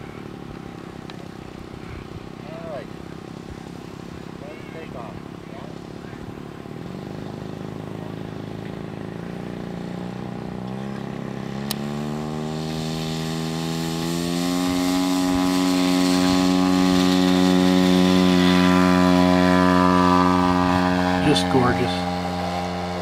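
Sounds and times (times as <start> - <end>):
model airplane engine revving: 0.0 - 23.0.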